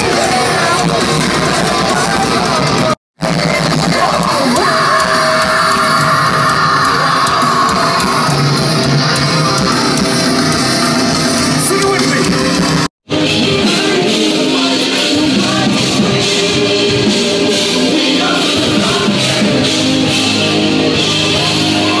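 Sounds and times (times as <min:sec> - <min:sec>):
electric guitar: 0:00.0 - 0:22.0
live rock band playing: 0:00.0 - 0:22.0.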